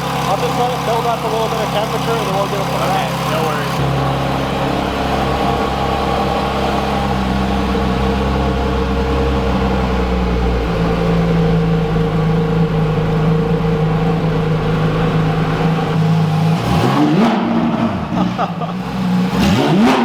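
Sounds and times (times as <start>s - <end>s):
sports car engine idling loudly: 0.0s - 20.0s.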